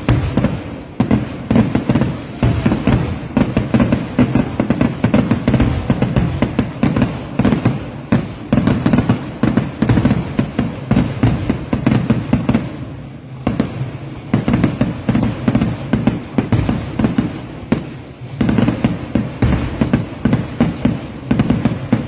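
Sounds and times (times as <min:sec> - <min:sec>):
fireworks exploding: 0:00.0 - 0:22.0.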